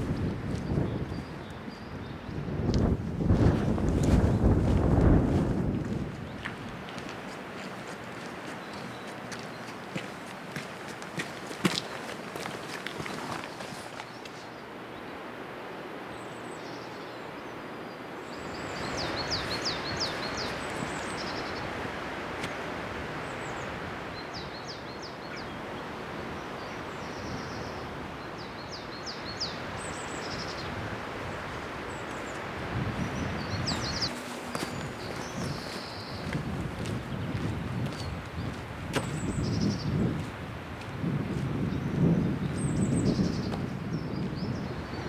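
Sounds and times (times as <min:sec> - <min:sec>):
songbirds singing: 0:00.0 - 0:45.0.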